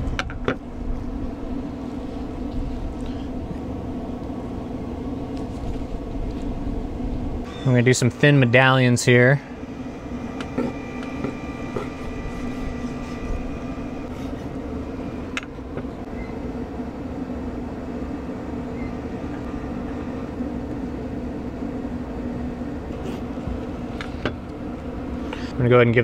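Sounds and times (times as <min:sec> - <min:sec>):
machine hum with held tones: 0:00.0 - 0:26.0.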